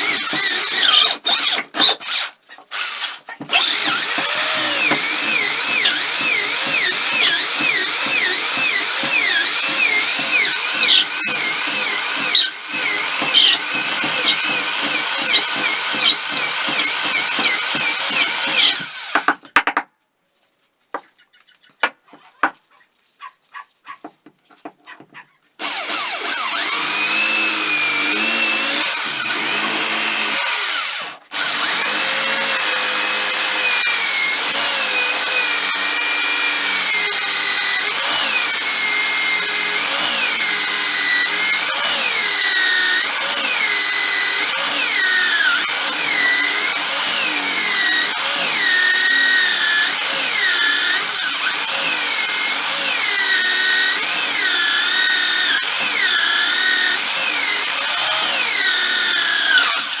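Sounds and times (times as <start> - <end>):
electric power tool whining: 0.0 - 19.4, 25.6 - 60.0.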